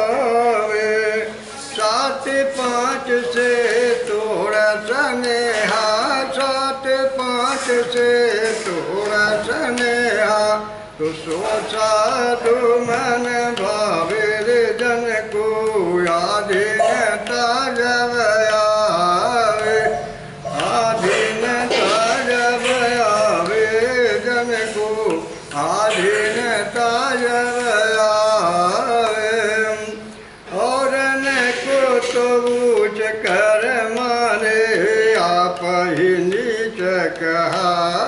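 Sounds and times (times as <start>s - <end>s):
man singing devotional song: 0.0s - 38.0s.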